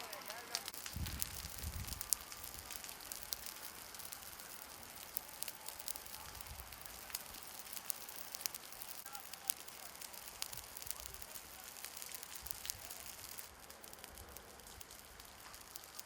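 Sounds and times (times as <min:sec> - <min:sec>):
burning vegetation crackling: 0:00.0 - 0:16.0.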